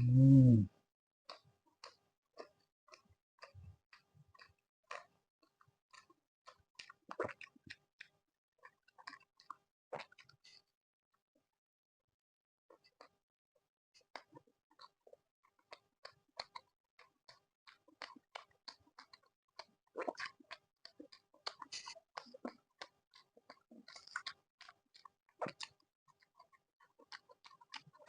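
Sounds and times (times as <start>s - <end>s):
close chewing and crunching: 1.3s - 10.8s, 12.7s - 13.2s, 14.0s - 28.0s.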